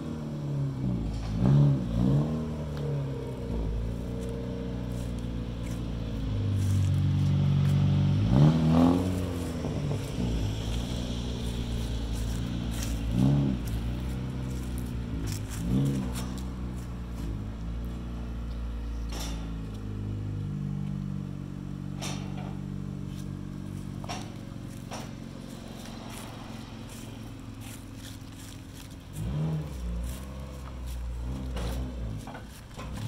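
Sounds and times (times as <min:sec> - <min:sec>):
car engine idling: 0:00.0 - 0:33.0
car engine revving: 0:00.0 - 0:33.0.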